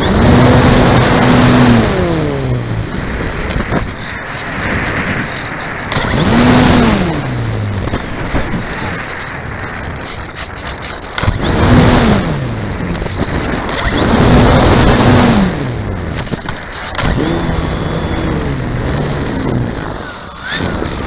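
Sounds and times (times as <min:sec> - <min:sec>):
model plane propeller buzz passing: 0:00.0 - 0:09.1, 0:11.2 - 0:21.0
airflow rushing over camera: 0:00.0 - 0:21.0
steady propeller drone: 0:00.0 - 0:21.0.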